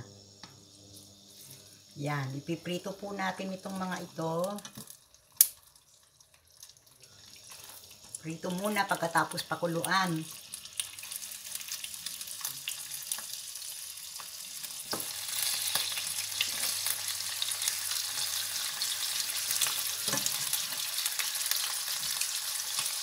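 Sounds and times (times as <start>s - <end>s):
chicken sizzling in a frying pan: 0.0s - 23.0s.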